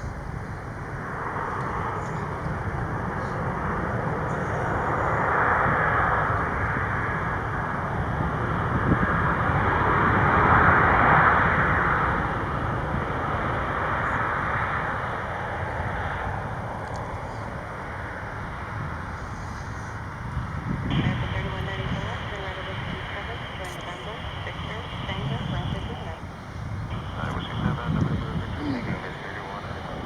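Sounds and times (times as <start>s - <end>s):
jet engines rushing: 0.0s - 30.0s.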